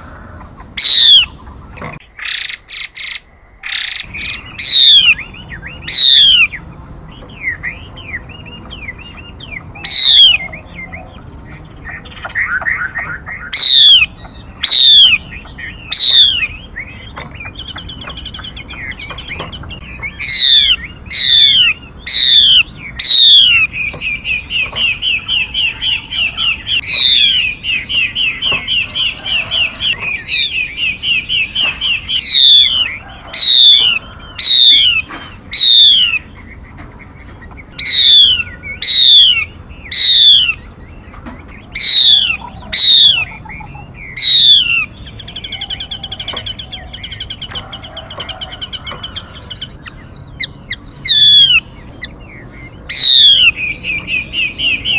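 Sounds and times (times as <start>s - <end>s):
songbird calls sweeping downward: 2.2s - 11.2s, 11.8s - 36.4s, 37.7s - 40.7s, 41.7s - 54.9s.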